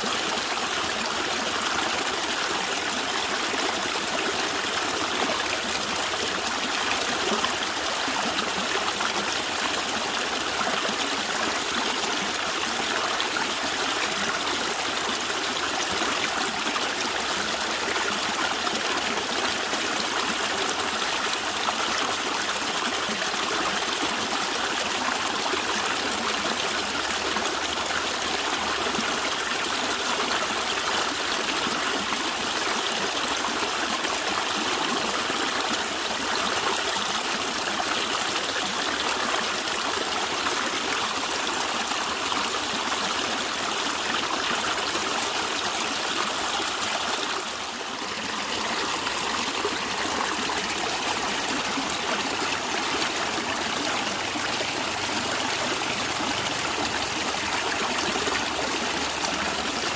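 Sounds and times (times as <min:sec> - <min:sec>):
stream gurgling over stones: 0:00.0 - 0:59.9.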